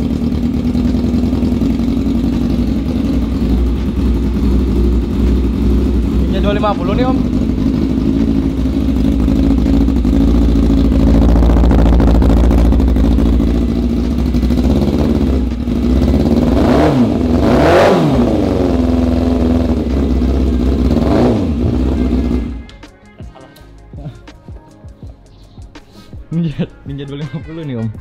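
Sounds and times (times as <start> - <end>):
engine throttle blips: 0.0 - 22.8
motorcycle engine idling unevenly: 0.0 - 27.8.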